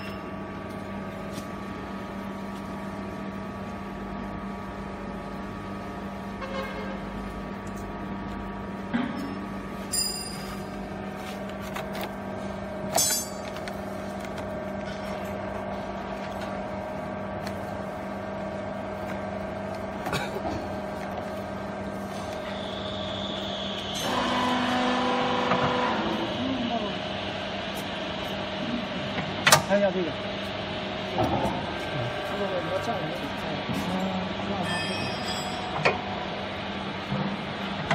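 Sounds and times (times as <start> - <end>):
loud whine with steady tones: 0.0 - 37.9
machinery hum: 0.0 - 37.9.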